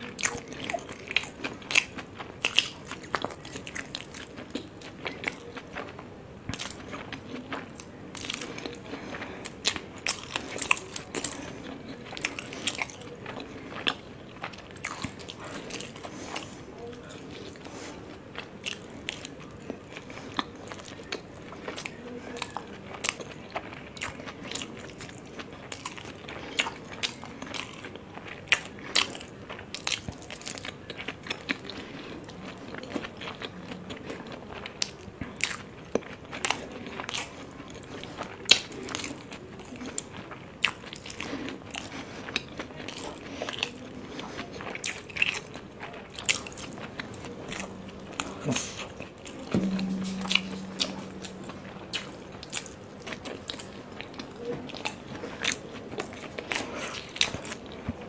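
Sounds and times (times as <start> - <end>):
person chewing dumplings: 0.0 - 49.5, 50.6 - 58.0.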